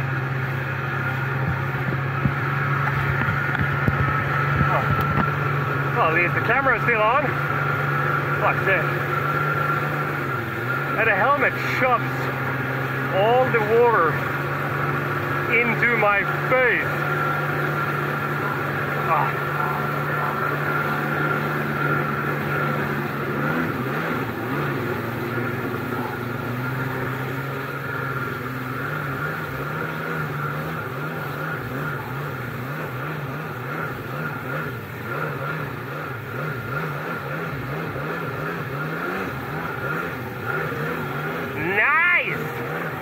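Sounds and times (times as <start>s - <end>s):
jet ski engine running: 0.0s - 43.0s
rushing water spray: 0.0s - 43.0s.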